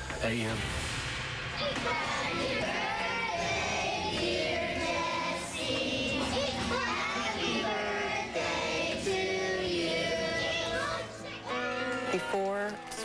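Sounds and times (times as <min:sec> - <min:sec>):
children singing together: 0:01.6 - 0:12.3.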